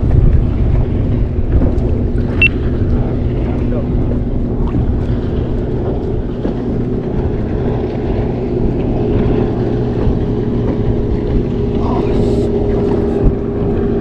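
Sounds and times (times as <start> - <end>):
boat motor humming: 0.0 - 14.0
water rushing: 0.0 - 14.0
wind noise: 0.0 - 14.0.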